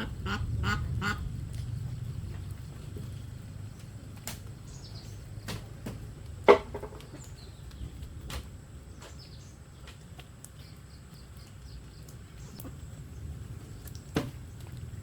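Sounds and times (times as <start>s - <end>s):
low steady rumble: 0.0s - 9.0s, 11.9s - 15.0s.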